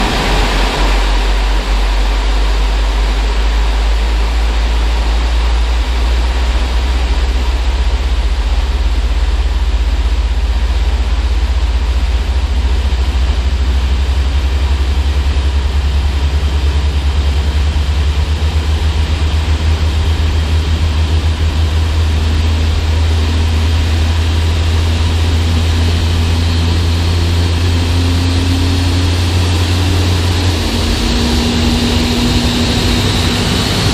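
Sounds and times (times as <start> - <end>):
engine whine rising in pitch: 0.0 - 33.9
jet engine low rumble: 0.0 - 33.9.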